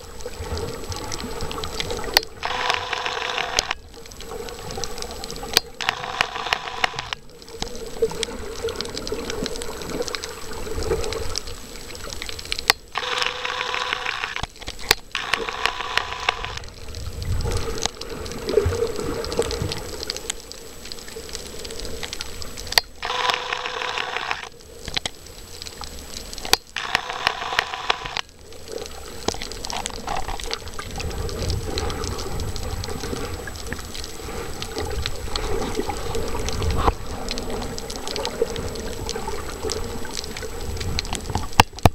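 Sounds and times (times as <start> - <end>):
underwater water rumble: 0.0 - 12.7, 14.5 - 22.7, 24.5 - 41.9.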